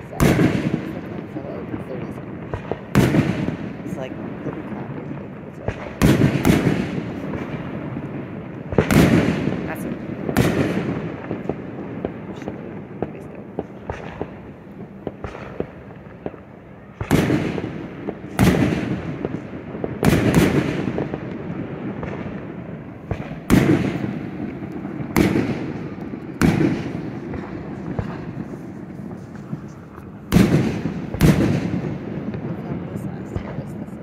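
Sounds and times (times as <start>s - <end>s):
fireworks booming: 0.0s - 34.0s
fireworks pops and crackles: 0.0s - 34.0s.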